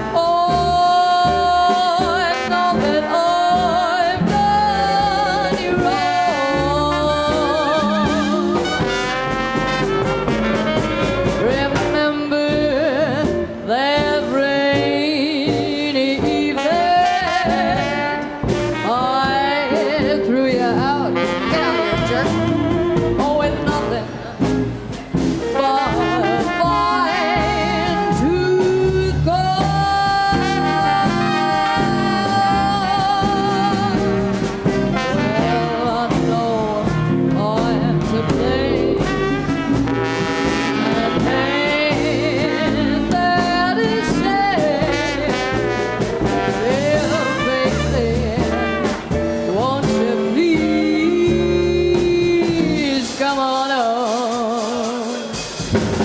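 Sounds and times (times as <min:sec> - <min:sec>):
jazz lead wavering held notes: 0:00.0 - 0:53.5
bass: 0:00.0 - 0:56.0
drums: 0:00.0 - 0:56.0.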